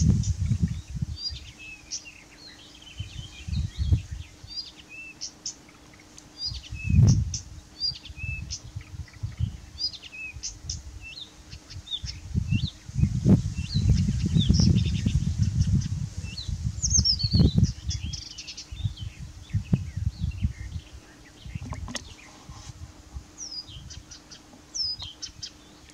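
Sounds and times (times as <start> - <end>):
wind rumbling on microphone: 0.0 - 1.7, 2.9 - 4.6, 6.4 - 25.5
warbler singing: 0.0 - 25.9.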